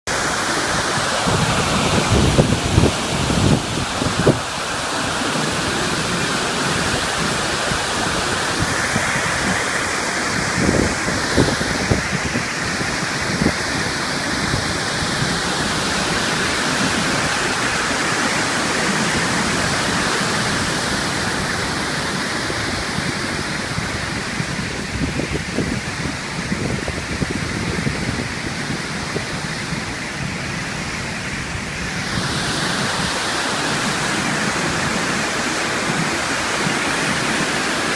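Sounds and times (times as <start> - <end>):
waterfall roaring: 0.0 - 37.9
wind buffeting microphone: 0.1 - 37.9.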